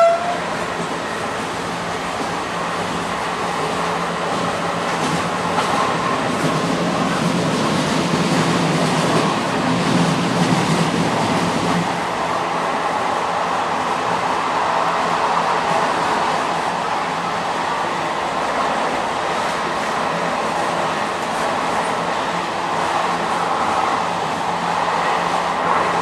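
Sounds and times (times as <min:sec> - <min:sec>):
train rumble and rail noise: 0:00.0 - 0:26.0.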